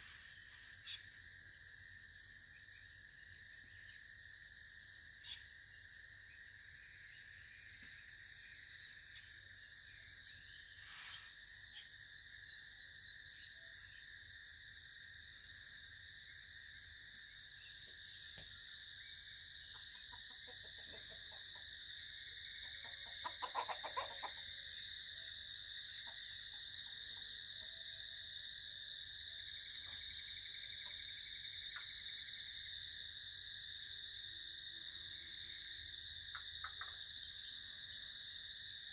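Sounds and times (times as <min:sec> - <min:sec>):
high insect chorus: 0:00.0 - 0:38.9.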